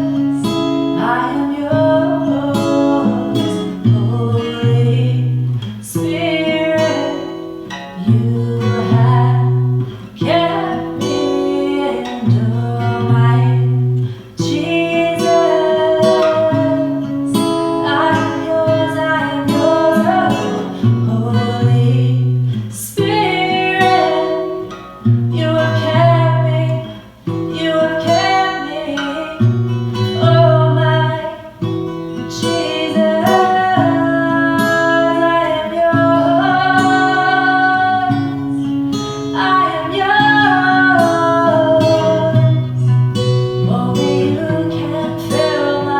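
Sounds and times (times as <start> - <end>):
acoustic guitar strumming: 0.0 - 45.9
woman singing: 0.0 - 45.9.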